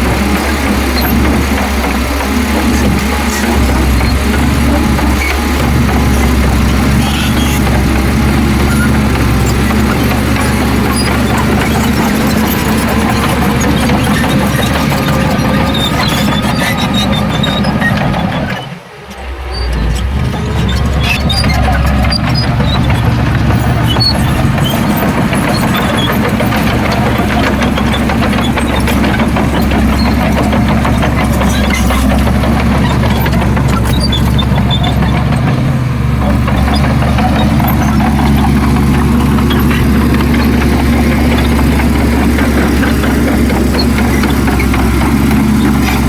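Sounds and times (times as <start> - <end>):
heavy diesel engine rumbling: 0.0 - 46.0.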